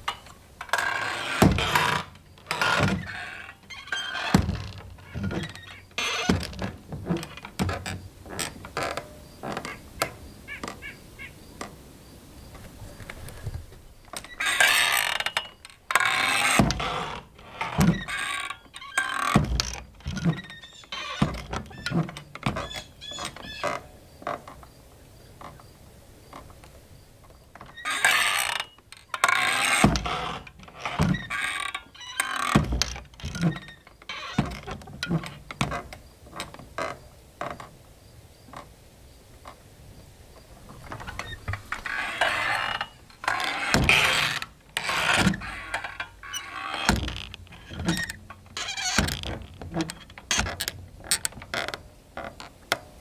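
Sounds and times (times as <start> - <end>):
swinging doors creaking and knocking: 0.0 - 53.0.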